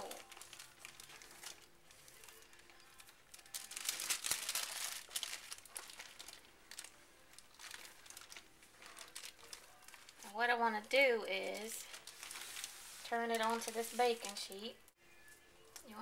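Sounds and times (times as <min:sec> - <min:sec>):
wax paper crinkling: 0:00.0 - 0:14.7.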